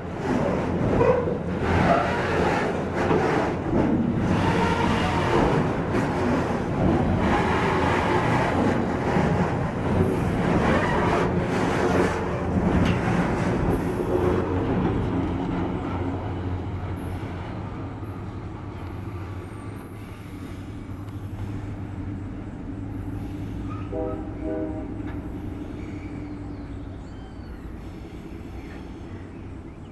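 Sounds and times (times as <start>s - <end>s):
diesel locomotive engine drone: 0.0s - 29.9s
rolling train wheel noise: 0.0s - 29.9s.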